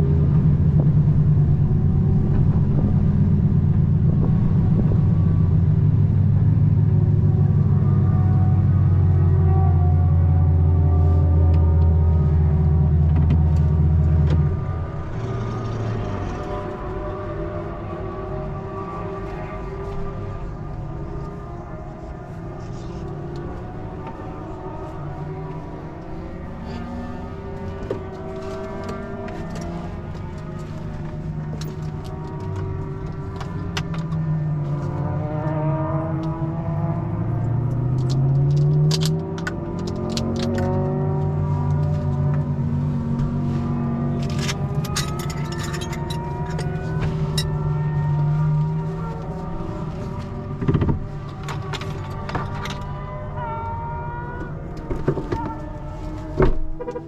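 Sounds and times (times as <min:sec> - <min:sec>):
car engine droning under load: 0:00.0 - 0:57.0.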